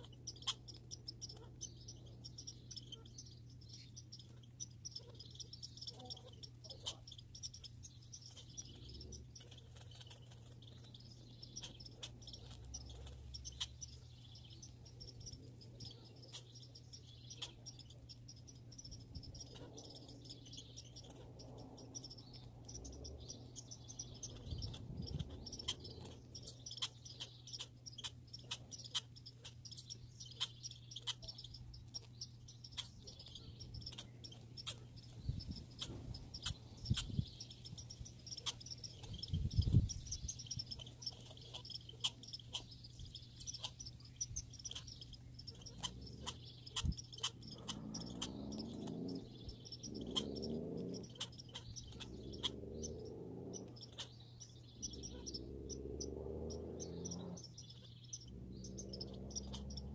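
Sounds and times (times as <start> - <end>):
squirrels clicking while feeding: 0.0 - 59.9.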